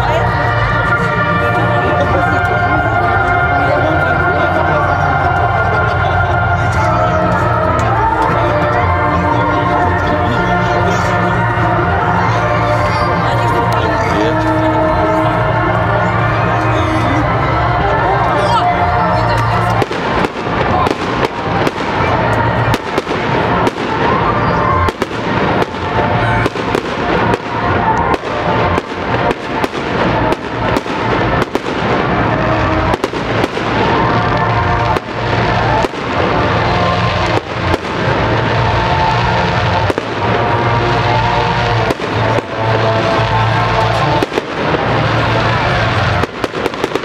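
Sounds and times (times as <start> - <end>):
music: 0.0 - 47.0
fireworks bangs: 0.1 - 47.0.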